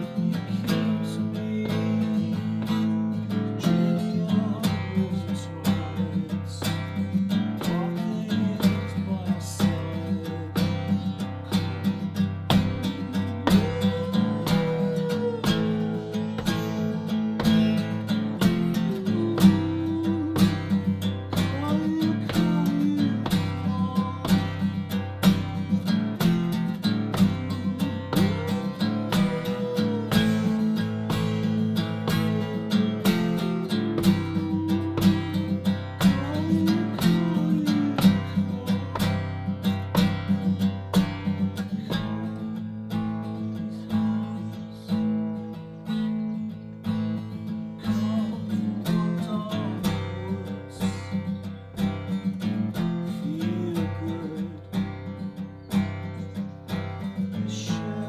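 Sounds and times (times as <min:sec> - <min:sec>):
acoustic guitar: 0:00.0 - 0:58.0.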